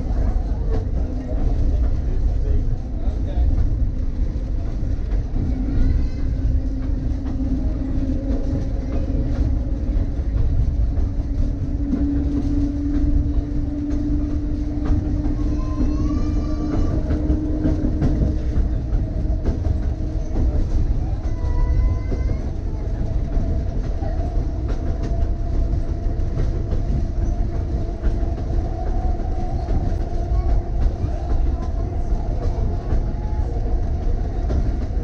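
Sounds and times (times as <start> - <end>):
constant hum: 0.0 - 35.0
electric railcar rumble: 0.0 - 35.0
wheels clicking over rail joints: 0.1 - 35.0.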